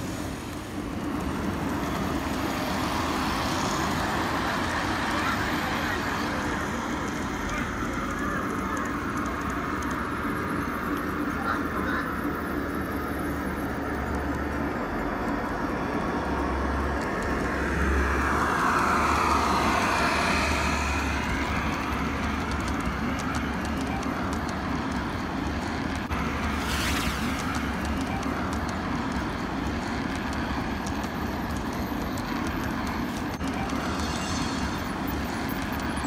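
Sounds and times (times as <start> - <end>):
model train wheels rumbling on track: 0.0 - 36.0.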